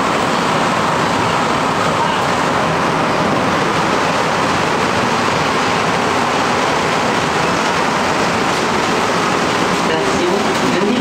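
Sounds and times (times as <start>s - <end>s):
metro car running noise: 0.0s - 11.0s.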